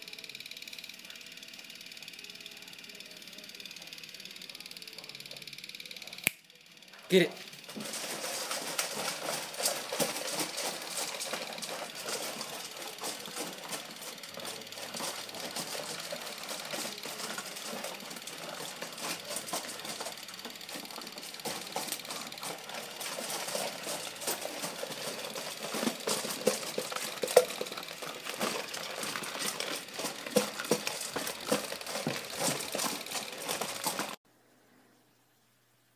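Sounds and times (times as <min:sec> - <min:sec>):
film projector clattering: 0:00.0 - 0:34.2.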